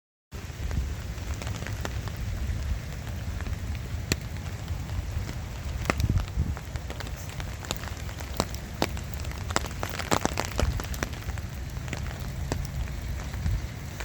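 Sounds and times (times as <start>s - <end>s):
light rain falling: 0.3s - 14.0s
low steady rumble: 0.4s - 14.0s
raindrops ticking: 0.4s - 14.0s.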